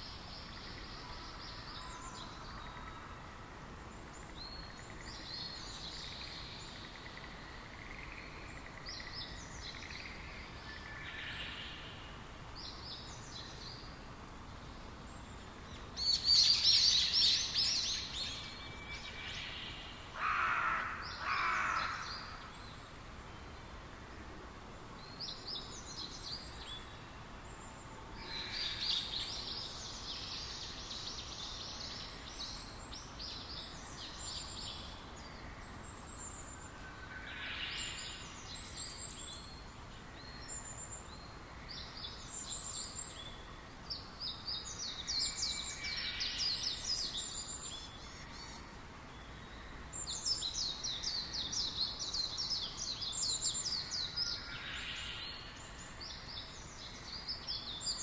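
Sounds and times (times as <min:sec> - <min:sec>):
songbirds chirping and trilling: 0:00.0 - 0:58.0
steady background hiss: 0:00.0 - 0:58.0.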